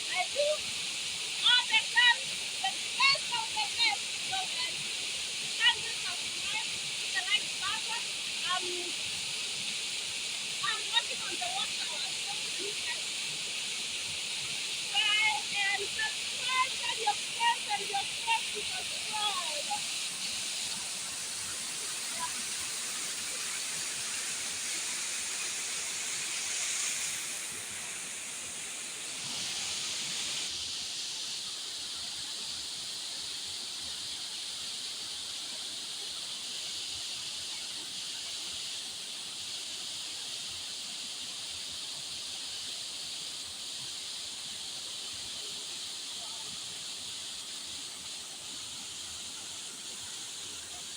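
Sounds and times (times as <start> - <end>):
rushing water hiss: 0.0 - 50.9.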